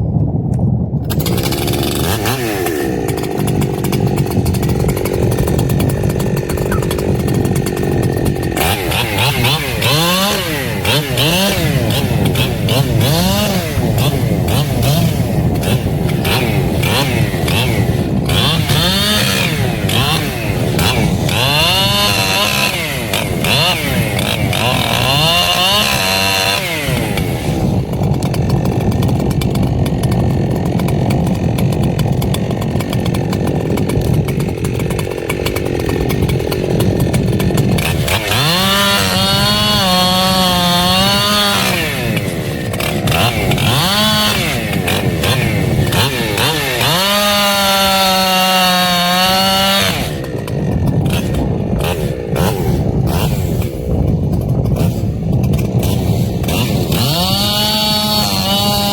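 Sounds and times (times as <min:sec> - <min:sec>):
chainsaw revving: 0:01.0 - 0:58.9.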